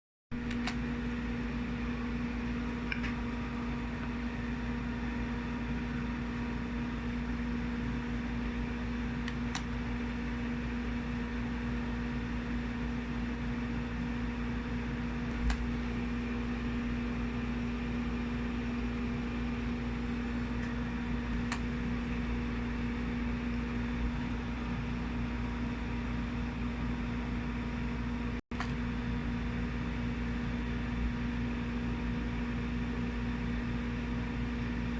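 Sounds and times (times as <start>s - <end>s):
steady low hum: 0.4s - 34.9s.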